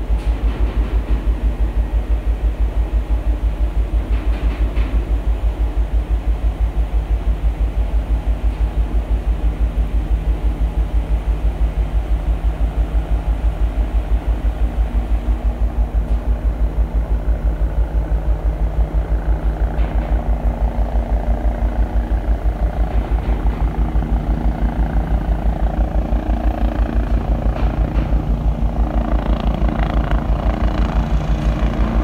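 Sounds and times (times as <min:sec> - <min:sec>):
ship machinery throbbing: 0:00.0 - 0:32.0
steady hum: 0:00.0 - 0:32.0.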